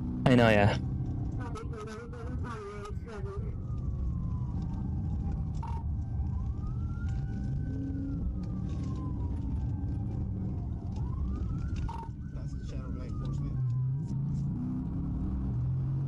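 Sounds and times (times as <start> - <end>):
car engine and road rumble: 0.0 - 16.0
police siren wailing: 0.0 - 16.0.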